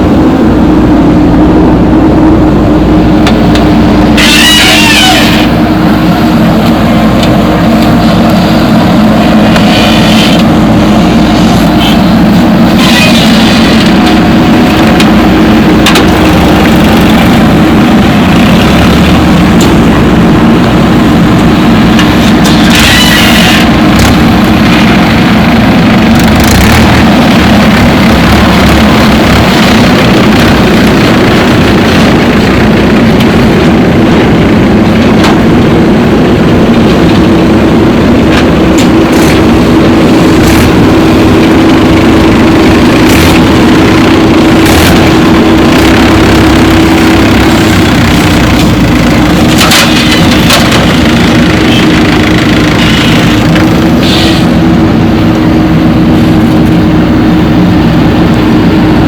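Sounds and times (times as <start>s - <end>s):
diesel engine running loudly: 0.0s - 59.0s.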